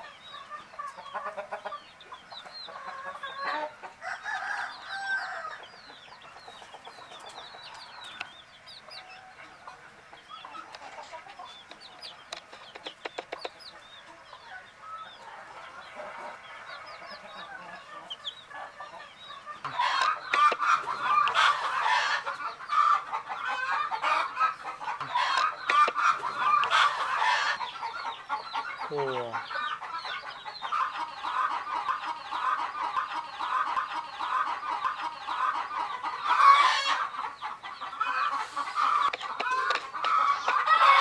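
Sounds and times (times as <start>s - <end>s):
baby chicks peeping: 0.0s - 41.0s
chicken calls: 0.0s - 41.0s.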